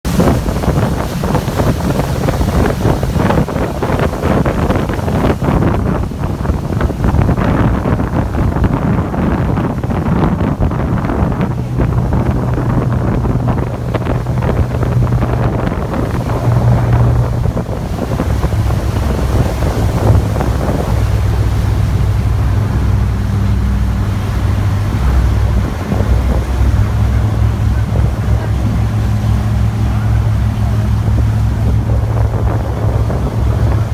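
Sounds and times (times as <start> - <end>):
boat engine hum: 0.0 - 33.9
wind buffeting microphone: 0.0 - 33.9.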